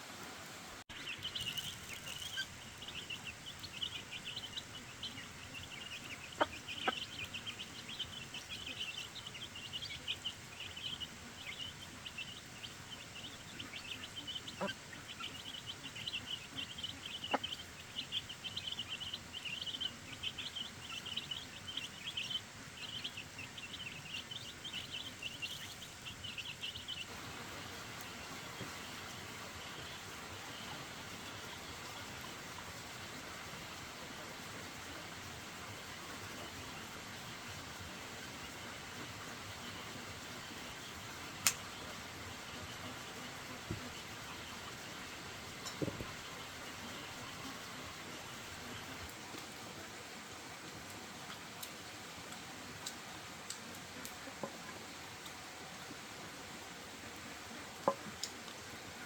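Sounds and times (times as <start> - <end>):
small birds chirping: 0.8 - 59.0.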